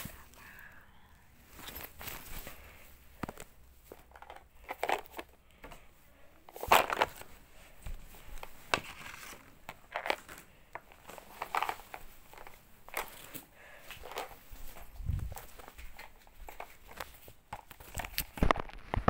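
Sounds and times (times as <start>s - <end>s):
fabric rustling against microphone: 1.4s - 4.2s, 5.7s - 19.0s.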